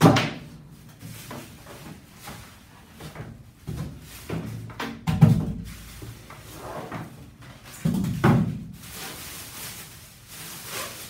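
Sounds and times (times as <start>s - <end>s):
plastic film rustling and crackling: 0.6s - 11.0s.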